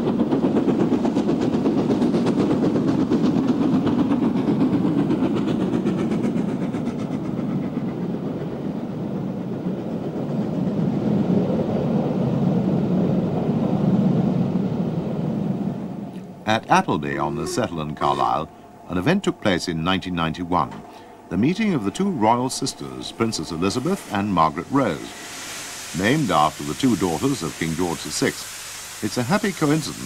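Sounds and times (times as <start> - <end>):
steam locomotive exhaust beating: 0.0 - 14.4, 15.8 - 30.0
train coaches rumbling: 0.0 - 30.0.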